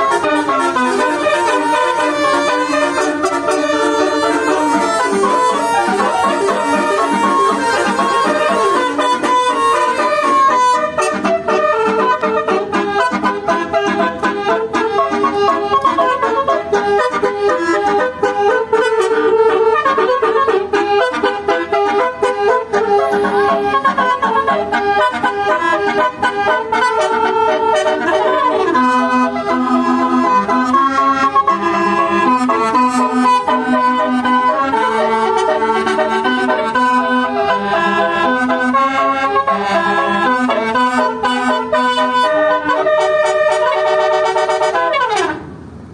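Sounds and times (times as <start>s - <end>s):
tuned air horn melody: 0.0s - 45.6s.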